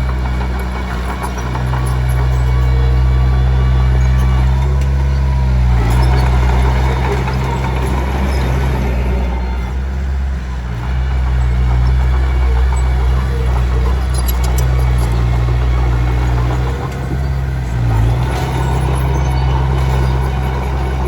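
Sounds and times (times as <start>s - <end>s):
tracks scraping and rattling stone: 0.0s - 9.8s, 10.6s - 21.0s
bulldozer diesel engine running: 0.0s - 21.0s.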